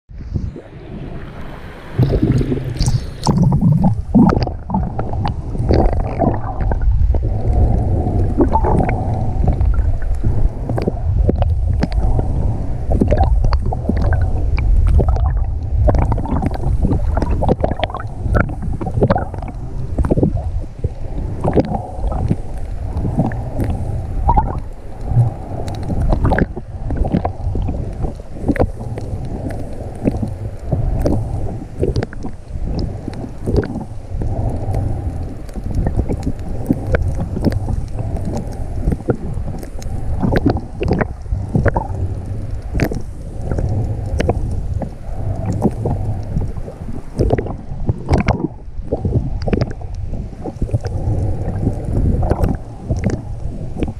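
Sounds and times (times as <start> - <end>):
underwater rumble of moving water: 0.0 - 53.9
underwater clicks and crackles: 0.2 - 53.9.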